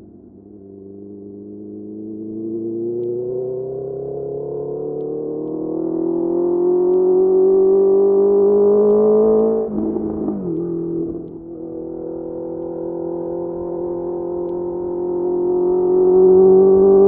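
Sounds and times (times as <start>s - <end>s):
motorcycle engine revving: 0.5s - 17.0s.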